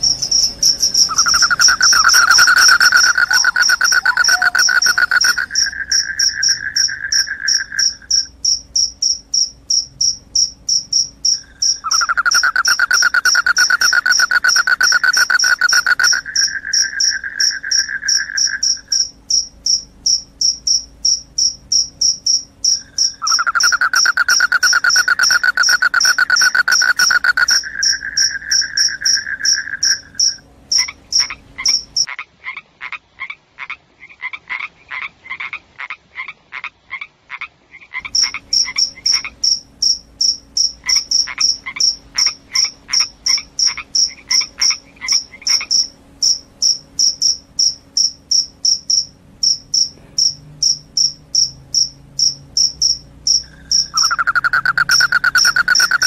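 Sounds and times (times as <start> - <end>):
crickets chirping: 0.0 - 32.1, 38.0 - 56.0.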